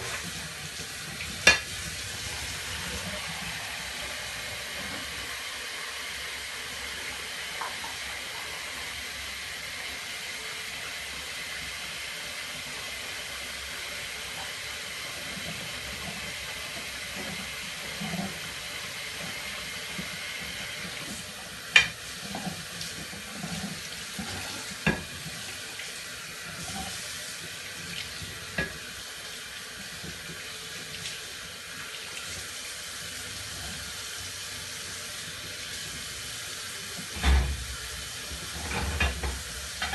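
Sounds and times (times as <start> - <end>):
tap water running: 0.0 - 39.9.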